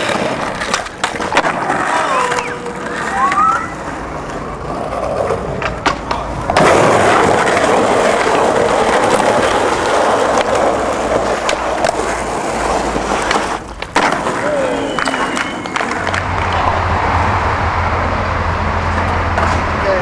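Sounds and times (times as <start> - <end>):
skateboard clacks: 0.0 - 17.3, 18.8 - 20.0
skateboard wheels rolling on concrete: 0.0 - 20.0.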